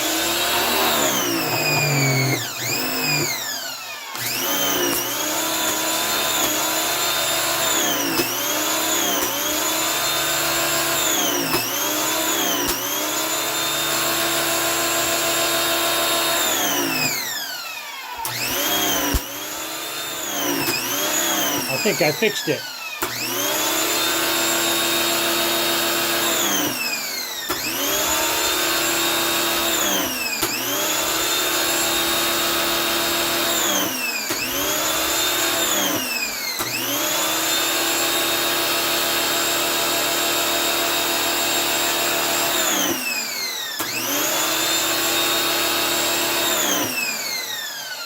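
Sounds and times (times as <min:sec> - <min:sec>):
pressure washer motor whining: 0:00.0 - 0:48.0.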